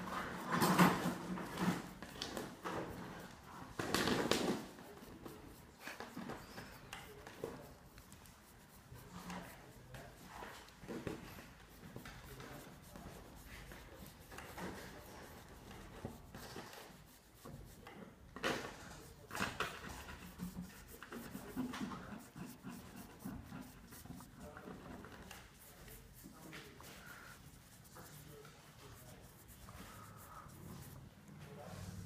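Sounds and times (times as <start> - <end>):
marker scratching on paper: 0.1 - 31.1.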